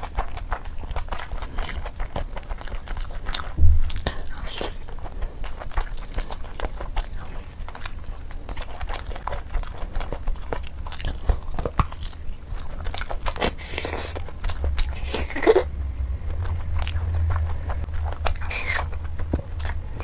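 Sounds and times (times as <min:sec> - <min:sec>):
chewing and biting food: 0:00.0 - 0:20.0
steady low hum: 0:00.0 - 0:20.0.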